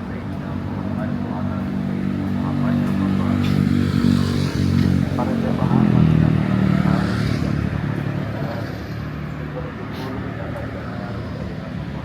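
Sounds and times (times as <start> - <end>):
motorcycles: 0.0 - 12.0
vehicle engines: 0.0 - 12.0.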